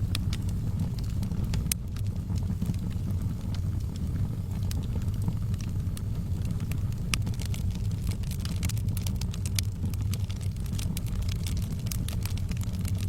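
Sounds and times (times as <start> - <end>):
low rumble: 0.0 - 13.0
wood fire crackling: 0.0 - 13.0.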